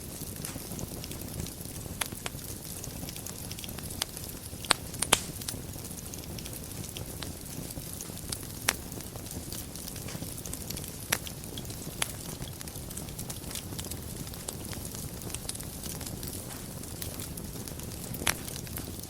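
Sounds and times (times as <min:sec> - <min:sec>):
fire burning in fireplace: 0:00.0 - 0:19.0
fire crackling and popping: 0:00.0 - 0:19.0.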